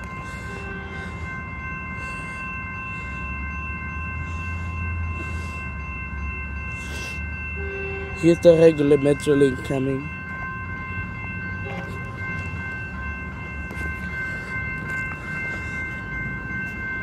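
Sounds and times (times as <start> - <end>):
crossing warning bell ringing: 0.0 - 17.0
low rumble of approaching train: 0.0 - 17.0.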